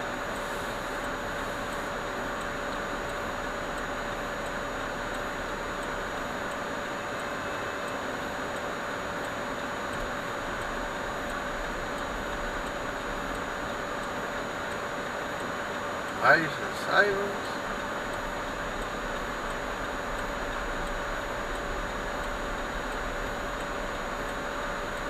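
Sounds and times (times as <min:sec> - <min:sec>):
constant electrical whine: 0:00.0 - 0:25.0
faint regular ticking: 0:00.0 - 0:25.0.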